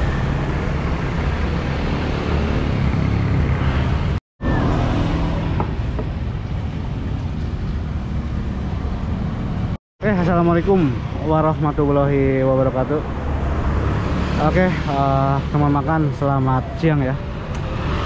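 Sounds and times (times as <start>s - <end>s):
motorbikes and cars passing: 0.0s - 18.0s.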